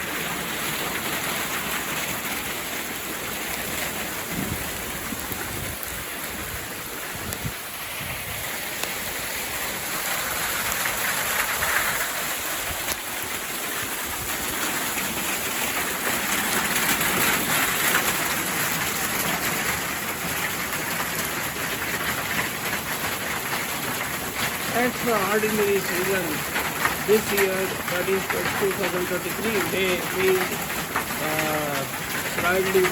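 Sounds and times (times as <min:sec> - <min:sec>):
hailstones hitting surfaces: 0:00.0 - 0:32.9.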